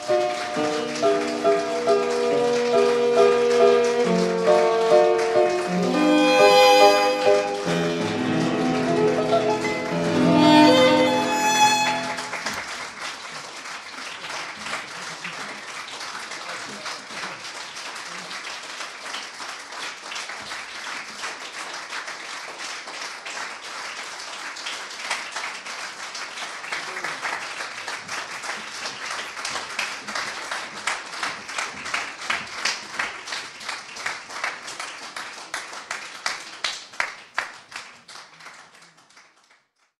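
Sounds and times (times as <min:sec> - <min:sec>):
audience applauding: 0:00.0 - 0:39.9
rhythmic clapping: 0:00.0 - 0:39.9.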